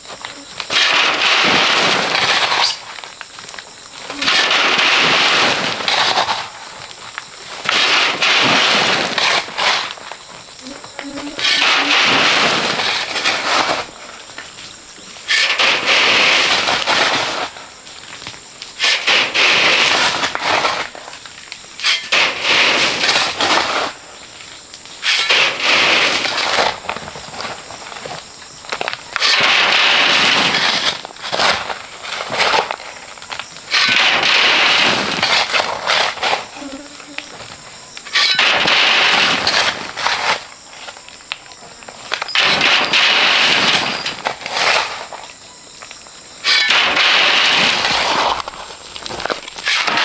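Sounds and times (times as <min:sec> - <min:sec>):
shovel scraping sand and gravel: 0:00.0 - 0:28.4, 0:29.0 - 0:41.1, 0:42.0 - 0:45.4, 0:46.2 - 0:50.0.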